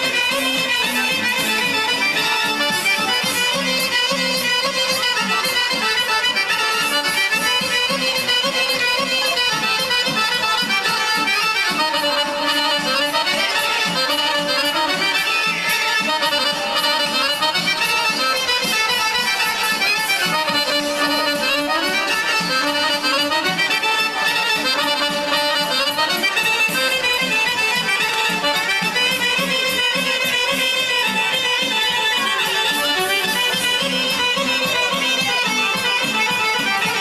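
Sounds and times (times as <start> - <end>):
folk dance music with accordion: 0.0 - 37.0.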